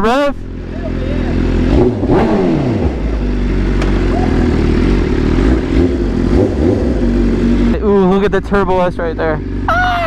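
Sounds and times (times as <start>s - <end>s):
motorcycle engine revving and idling: 0.0s - 10.0s.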